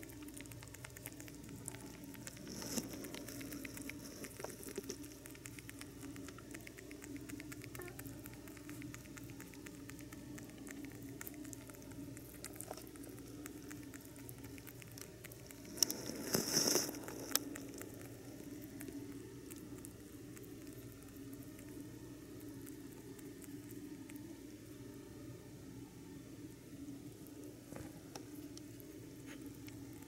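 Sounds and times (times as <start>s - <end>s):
rabbit chewing wet clicks: 0.0s - 25.1s, 26.8s - 30.0s.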